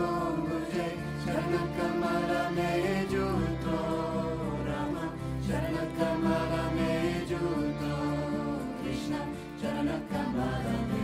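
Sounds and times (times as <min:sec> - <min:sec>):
devotional chant singing: 0:00.0 - 0:11.0
sustained held notes: 0:00.0 - 0:11.0.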